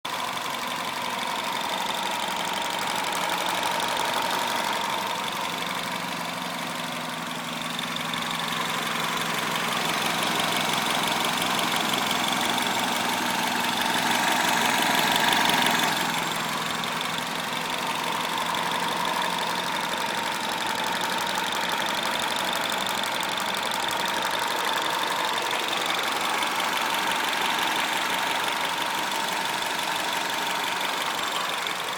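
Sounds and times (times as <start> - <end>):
car engine running: 0.1 - 31.9.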